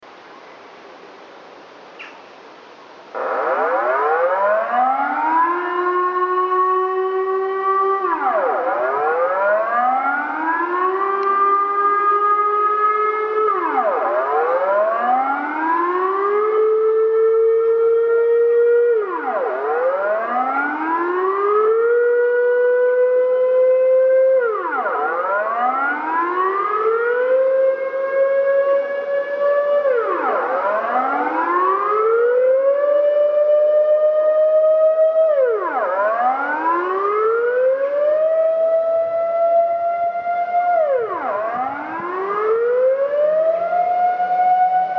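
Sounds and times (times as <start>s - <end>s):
air raid siren wailing: 3.1s - 44.9s.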